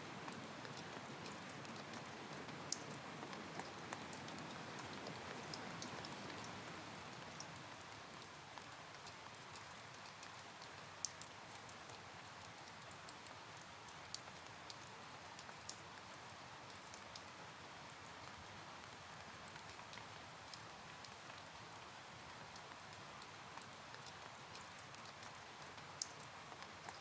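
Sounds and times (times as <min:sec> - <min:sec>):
steady rain: 0:00.0 - 0:27.0.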